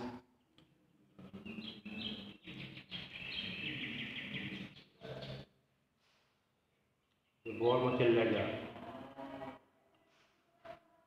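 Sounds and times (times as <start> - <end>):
small birds chirping: 0.1 - 10.3.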